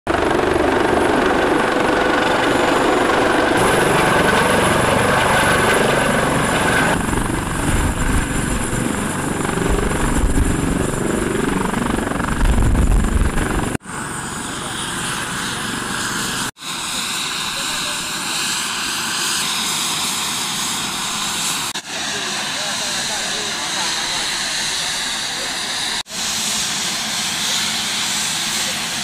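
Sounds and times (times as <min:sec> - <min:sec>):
helicopter turbine and rotor: 0:00.1 - 0:29.0.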